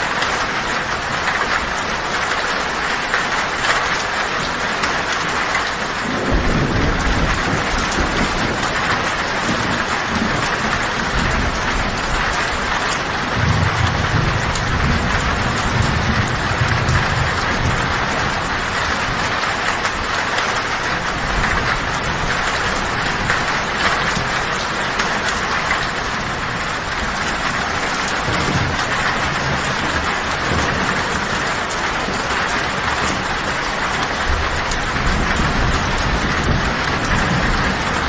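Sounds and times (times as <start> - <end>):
heavy rain on tin roof: 0.0 - 38.0
low thunder rumbles: 5.5 - 38.0.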